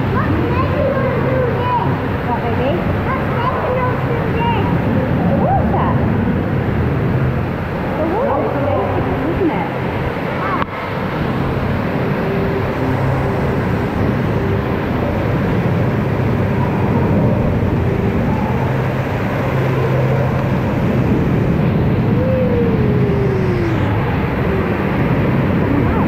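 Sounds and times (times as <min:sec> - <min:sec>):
fountains and waterfall running: 0:00.0 - 0:23.7
rush of moving water: 0:00.0 - 0:26.0.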